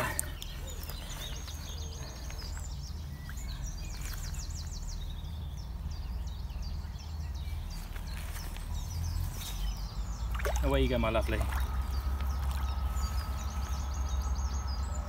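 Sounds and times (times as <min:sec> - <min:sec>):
small birds chirping and trilling: 0:00.0 - 0:15.0
steady low rumble: 0:00.0 - 0:15.0.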